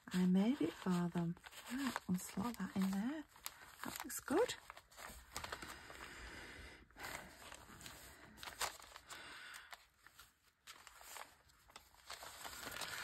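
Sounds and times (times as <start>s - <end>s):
paper rustling: 0.0s - 6.2s, 7.0s - 13.0s.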